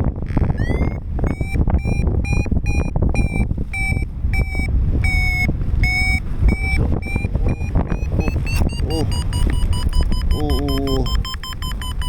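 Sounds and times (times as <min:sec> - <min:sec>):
wind on microphone: 0:00.0 - 0:12.0
variometer beeping: 0:00.5 - 0:12.0.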